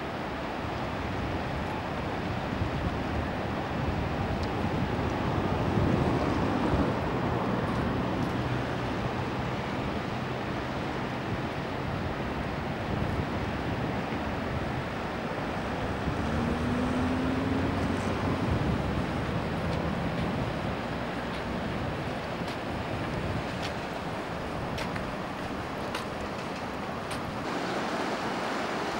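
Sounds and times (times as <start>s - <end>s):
low engine hum: 0.4s - 28.9s
wind on microphone: 0.6s - 27.6s.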